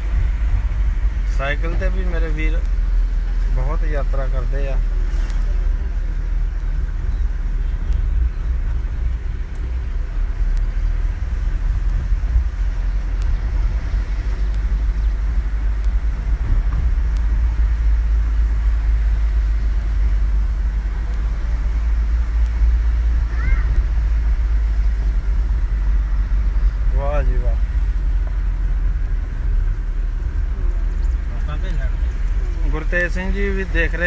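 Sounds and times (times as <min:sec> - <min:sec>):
car cabin engine and tyre rumble: 0:00.0 - 0:34.0.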